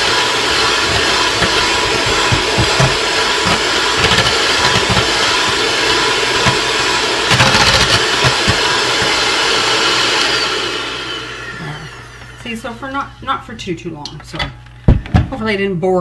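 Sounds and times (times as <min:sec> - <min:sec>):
electric hand mixer whipping: 0:00.0 - 0:13.5.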